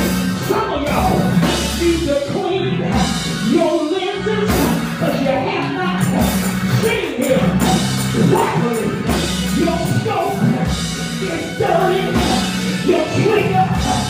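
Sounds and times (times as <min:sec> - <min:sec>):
backing music: 0:00.0 - 0:14.0
man singing into a microphone: 0:00.4 - 0:14.0.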